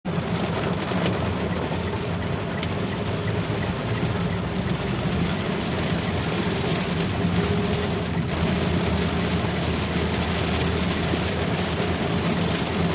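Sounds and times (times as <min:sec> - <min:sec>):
motor vehicle rumble: 0:00.1 - 0:12.9.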